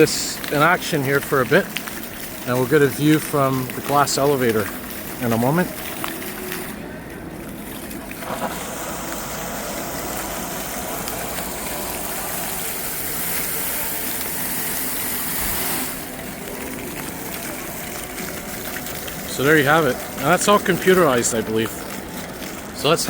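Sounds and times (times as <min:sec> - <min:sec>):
water fountain splashing: 0:00.0 - 0:23.0.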